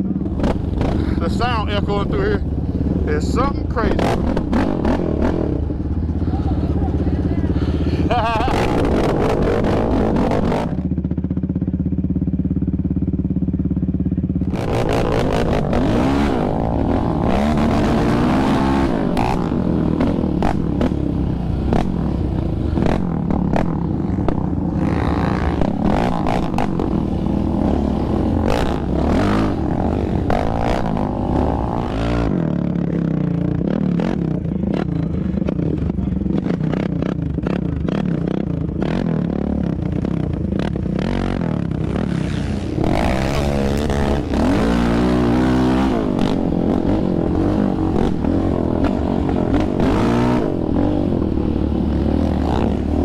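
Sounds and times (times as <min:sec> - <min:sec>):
quad engine revving: 0:00.0 - 0:11.2, 0:14.3 - 0:53.0
another atv engine: 0:00.0 - 0:53.0.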